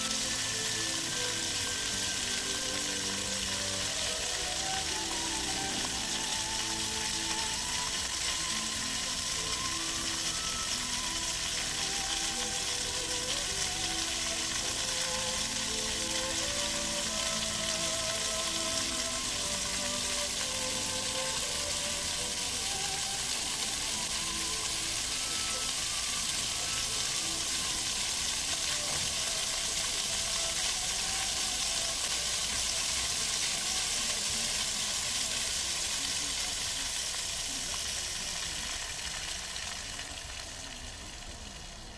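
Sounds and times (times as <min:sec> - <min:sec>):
fountain water splashing: 0:00.0 - 0:41.9.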